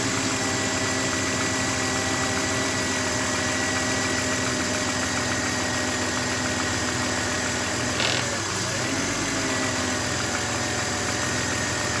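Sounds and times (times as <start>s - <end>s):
car engine idling roughly: 0.8s - 12.0s.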